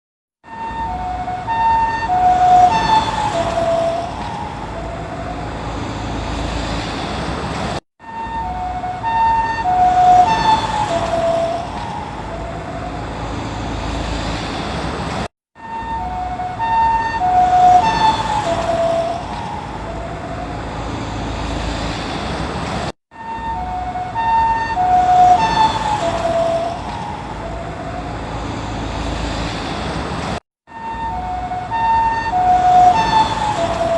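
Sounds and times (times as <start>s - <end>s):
two-tone ambulance siren passing: 0.4s - 14.8s, 15.6s - 22.3s, 23.1s - 29.6s, 30.7s - 33.9s
road noise: 0.4s - 33.9s.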